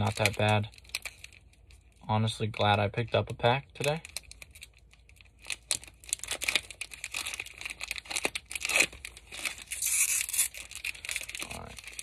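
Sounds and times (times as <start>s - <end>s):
card pack wrapper crinkling: 0.0s - 3.2s, 3.8s - 12.0s.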